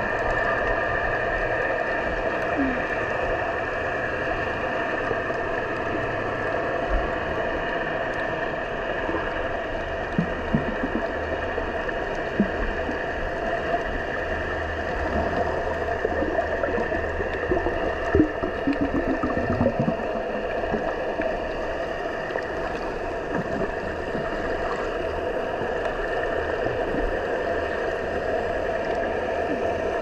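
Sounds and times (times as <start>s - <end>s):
underwater hum and hiss: 0.0s - 30.0s.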